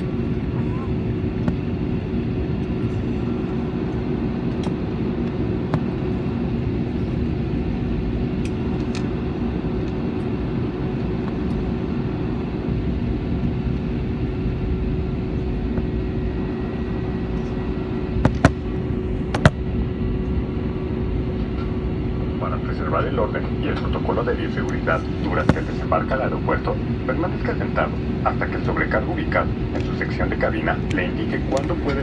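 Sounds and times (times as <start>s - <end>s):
airliner cabin rumble and hum: 0.0s - 32.0s.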